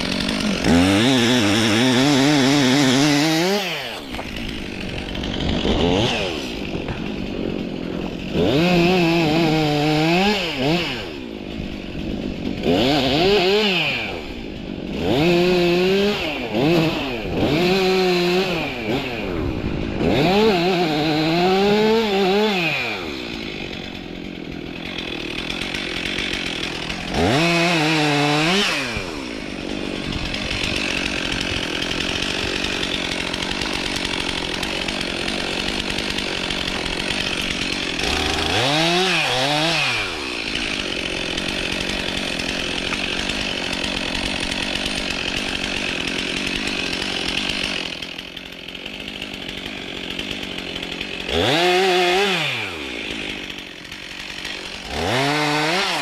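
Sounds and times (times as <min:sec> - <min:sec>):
chainsaw revving and cutting wood: 0:00.0 - 0:56.0.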